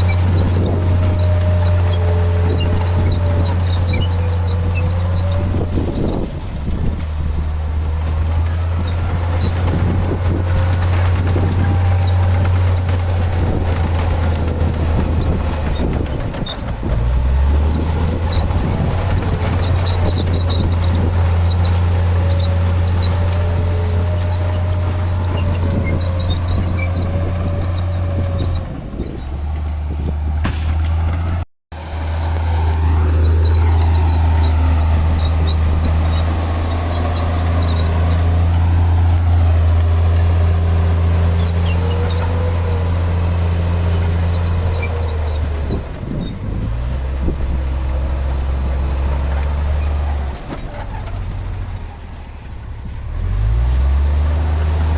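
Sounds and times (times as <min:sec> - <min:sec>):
heavy diesel engine droning: 0:00.0 - 0:54.9.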